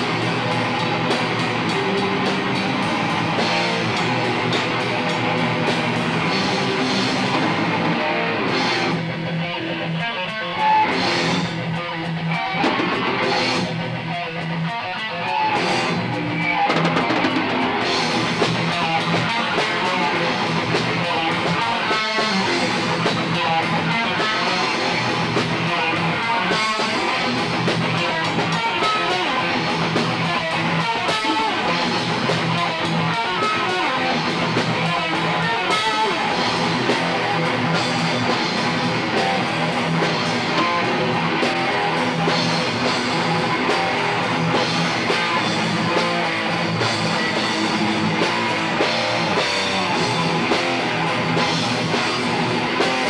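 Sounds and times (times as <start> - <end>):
rock band playing loudly: 0.0 - 53.0.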